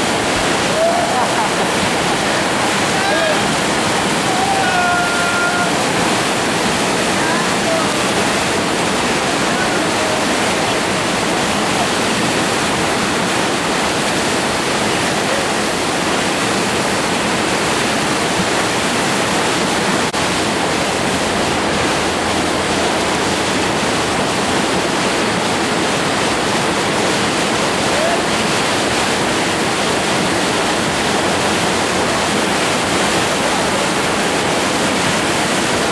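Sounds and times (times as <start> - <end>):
whitewater rapids rushing: 0.0 - 35.9.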